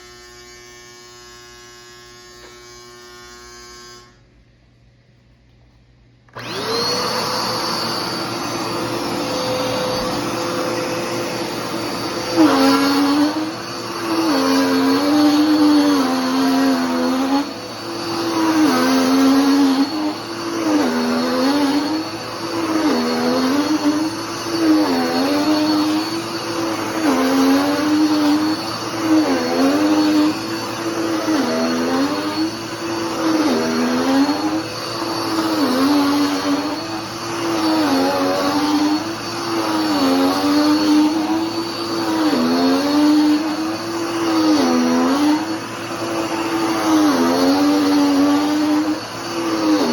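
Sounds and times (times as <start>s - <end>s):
vacuum cleaner running: 0.0s - 4.3s, 6.3s - 49.9s.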